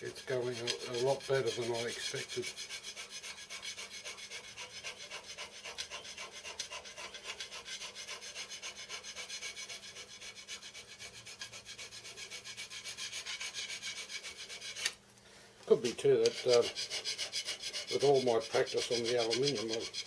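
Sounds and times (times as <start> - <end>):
hand scraper on steel plate: 0.0 - 15.0, 15.8 - 20.0.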